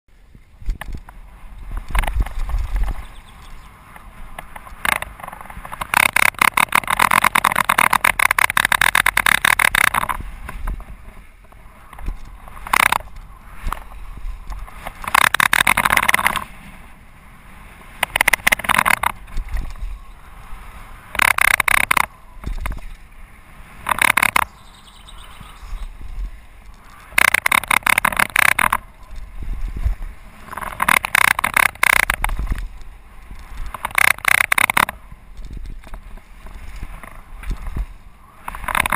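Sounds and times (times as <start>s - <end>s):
tyre and wind rumble: 0.1s - 38.9s.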